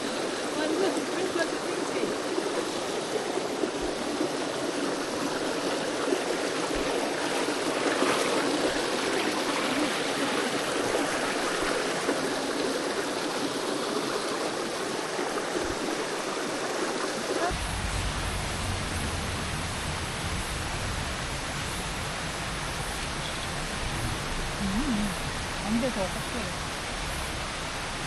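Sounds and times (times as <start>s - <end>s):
stream water flowing: 0.0s - 28.0s.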